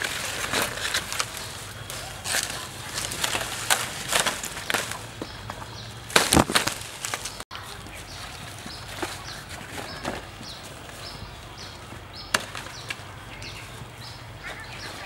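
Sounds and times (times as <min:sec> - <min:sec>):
bush leaves rustling: 0:00.0 - 0:15.0.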